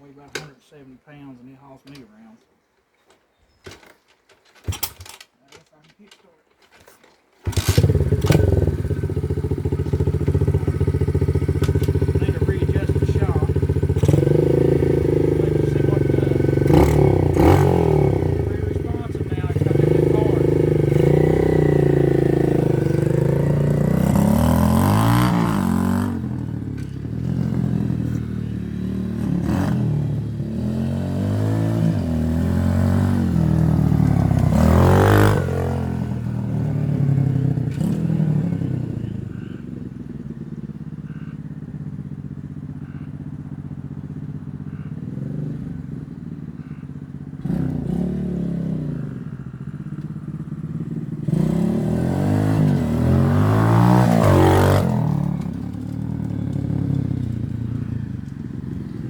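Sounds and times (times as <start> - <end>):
small motorbike engine revving: 7.4 - 59.0.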